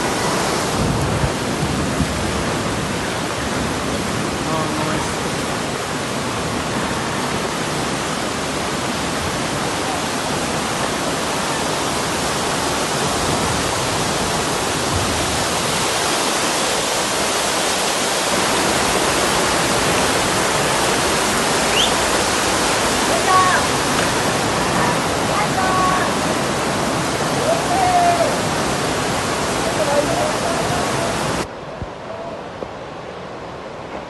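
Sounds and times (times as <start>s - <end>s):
heavy rain pouring: 0.0s - 31.7s.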